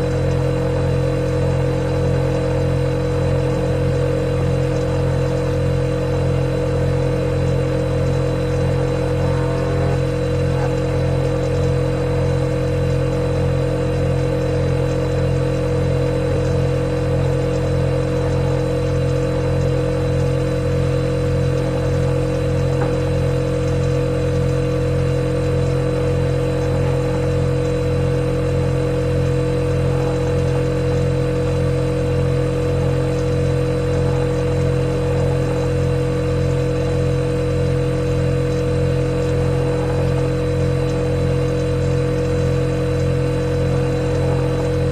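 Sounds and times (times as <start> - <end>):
refrigerator humming: 0.0 - 44.9.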